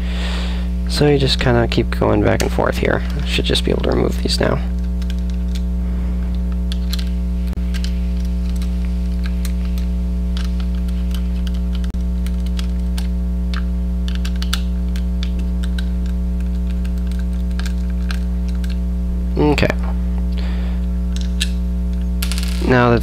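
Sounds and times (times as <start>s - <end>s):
loud low electrical hum: 0.0s - 23.0s.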